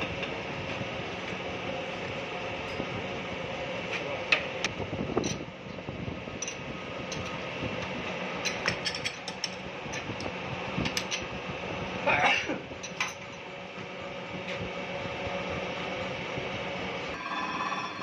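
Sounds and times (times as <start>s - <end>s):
grinding machine humming: 0.0s - 18.0s.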